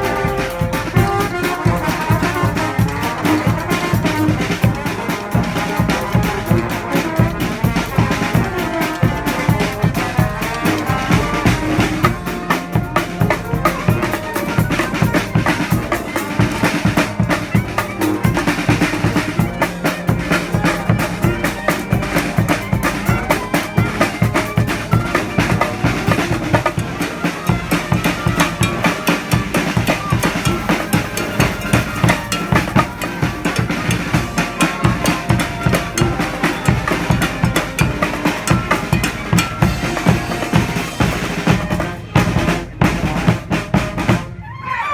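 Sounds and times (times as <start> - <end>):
bass drum and snare drum beating: 0.0 - 44.5
brass band playing: 0.0 - 44.5.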